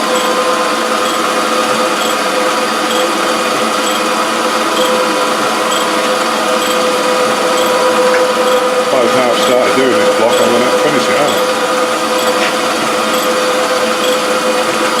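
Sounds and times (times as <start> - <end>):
grinder motor hum with whine: 0.0 - 15.0.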